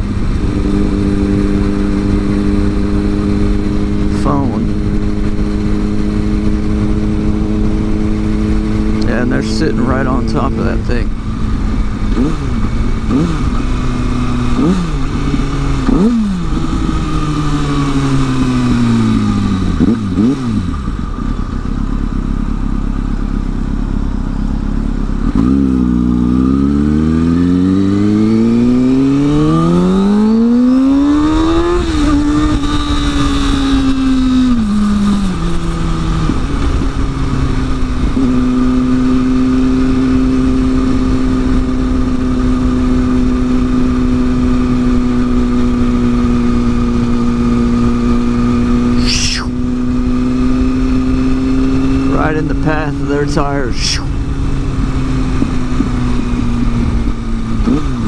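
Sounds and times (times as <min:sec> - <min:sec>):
motorcycle engine revving: 0:00.0 - 0:58.0
wind and road rush: 0:00.0 - 0:58.0.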